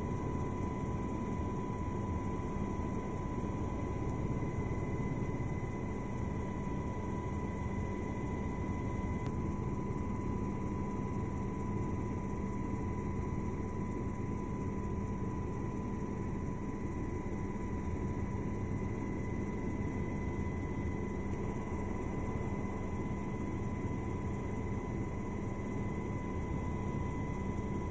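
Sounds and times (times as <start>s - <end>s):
faint steady whine: 0.0s - 27.9s
helicopter rotor low rumble: 0.0s - 27.9s.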